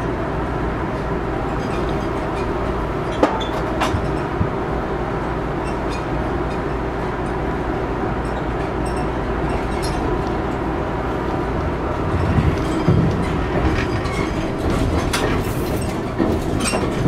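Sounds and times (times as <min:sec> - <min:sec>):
train rumbling and rattling: 0:00.0 - 0:17.0.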